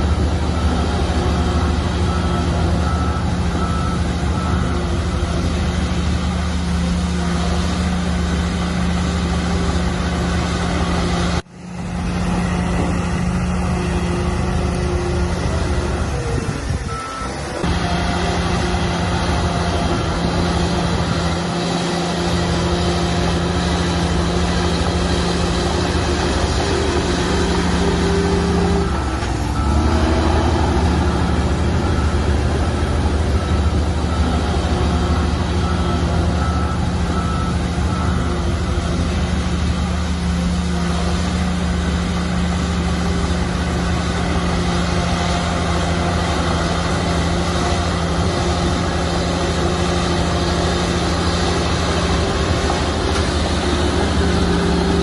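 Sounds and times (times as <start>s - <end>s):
diesel machinery engine hum: 0.0s - 55.0s.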